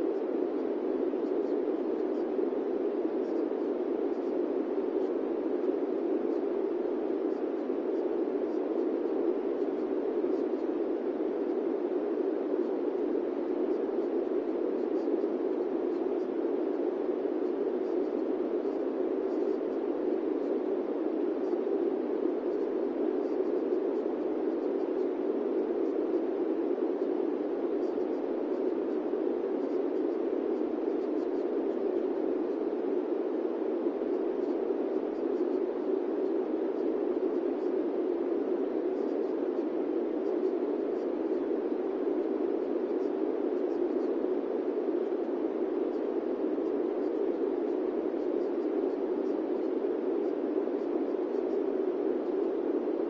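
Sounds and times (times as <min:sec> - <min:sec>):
steady white noise hiss: 0:00.0 - 0:53.0.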